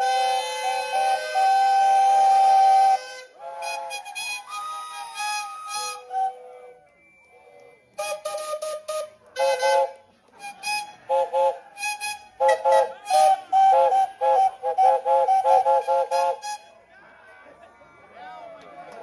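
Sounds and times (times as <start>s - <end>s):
steam whistle short toots: 0.0s - 6.8s, 7.9s - 16.7s.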